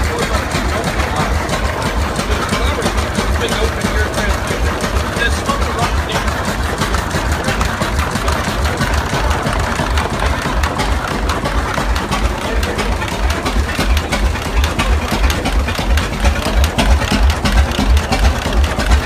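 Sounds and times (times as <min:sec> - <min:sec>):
large engine idling: 0:00.0 - 0:19.0.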